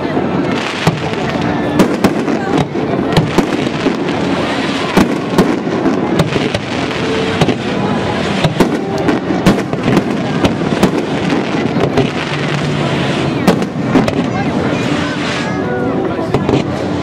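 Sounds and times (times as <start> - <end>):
fireworks crackle: 0.0 - 17.0.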